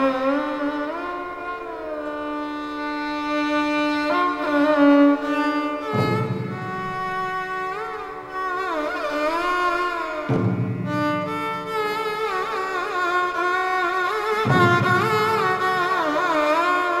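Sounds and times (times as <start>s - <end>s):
violin playing slow melody: 0.0s - 17.0s.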